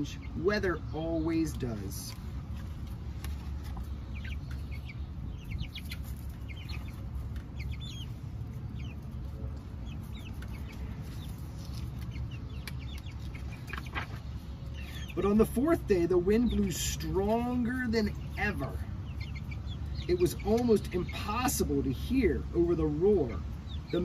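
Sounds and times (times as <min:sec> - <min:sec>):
steady low rumble: 0:00.0 - 0:22.7
chicks peeping: 0:00.0 - 0:24.0.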